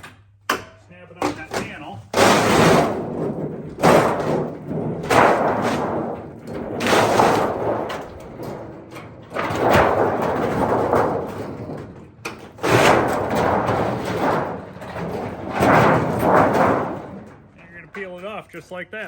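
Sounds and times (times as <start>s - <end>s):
sheet metal flexing and rumbling: 0.9s - 18.7s.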